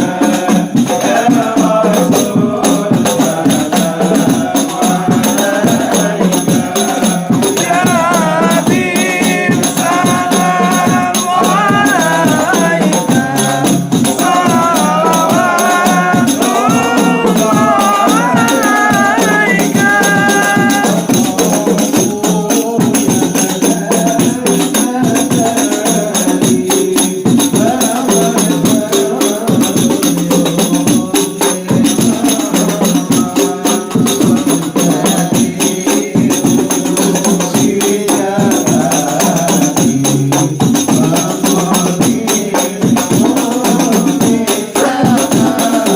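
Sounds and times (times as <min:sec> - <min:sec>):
frame drums beating: 0:00.0 - 0:45.9
group singing devotional songs: 0:00.0 - 0:45.9.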